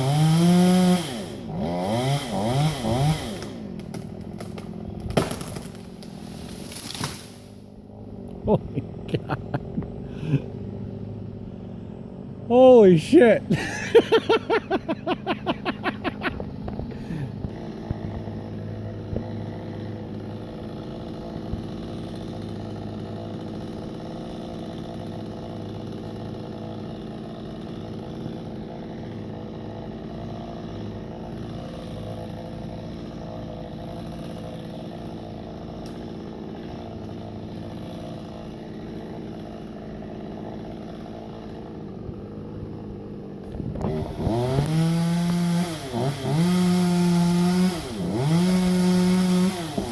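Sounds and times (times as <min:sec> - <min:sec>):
chainsaw idling and revving: 0:00.0 - 0:49.9.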